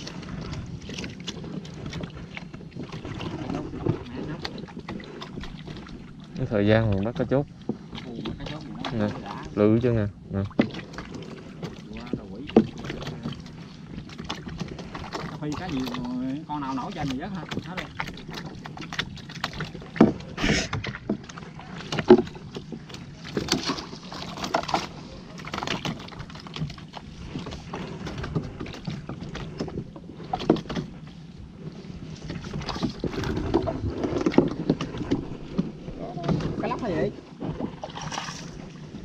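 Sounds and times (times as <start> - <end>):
paddle knocking on canoe: 0.0 - 39.0
paddle swishes and splashes: 0.0 - 39.0.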